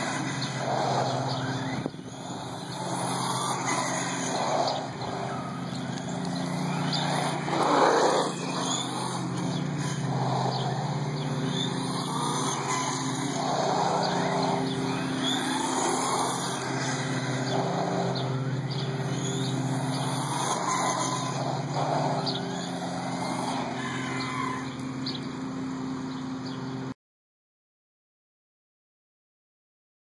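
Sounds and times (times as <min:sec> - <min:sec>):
toy truck motor whining: 0:00.0 - 0:25.3
steady low hum: 0:00.0 - 0:26.9.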